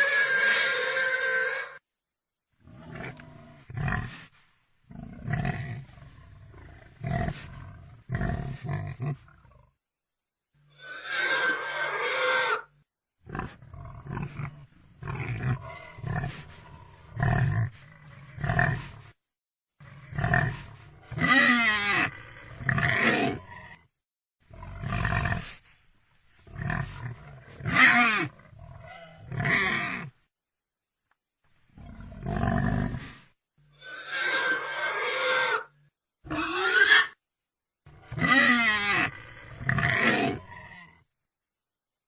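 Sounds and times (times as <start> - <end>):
pig grunting and squealing: 0.0 - 1.8, 2.6 - 4.3, 4.9 - 9.7, 10.7 - 19.0, 19.8 - 23.8, 24.5 - 25.6, 26.4 - 30.2, 31.8 - 37.2, 37.9 - 41.1.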